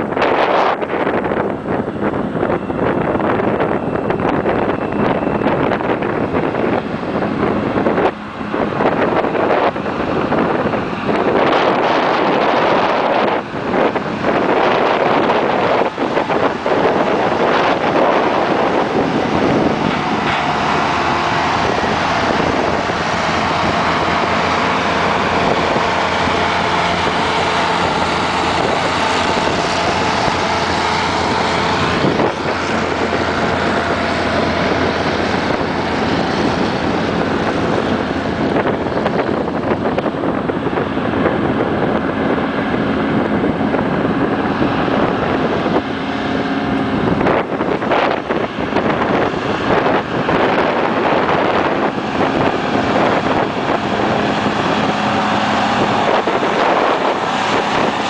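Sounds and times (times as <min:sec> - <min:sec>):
heavy truck diesel engines: 0:00.0 - 0:58.0
wind buffeting microphone: 0:00.0 - 0:58.0.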